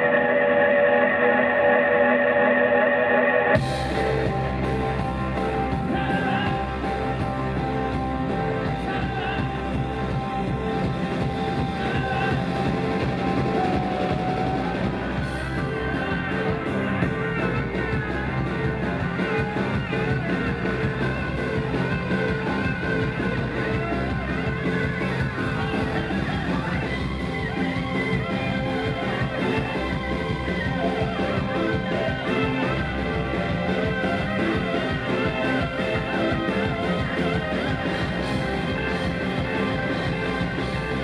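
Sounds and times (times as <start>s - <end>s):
bass guitar: 0.0s - 41.0s
drums: 0.0s - 41.0s
electric guitars: 0.0s - 41.0s
keyboards: 0.0s - 41.0s.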